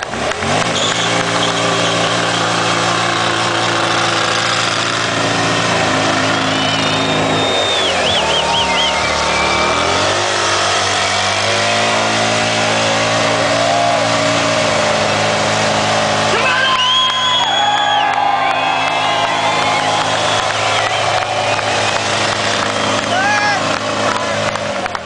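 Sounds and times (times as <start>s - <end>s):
motorcycle engine revving: 0.0s - 17.4s, 18.7s - 25.0s.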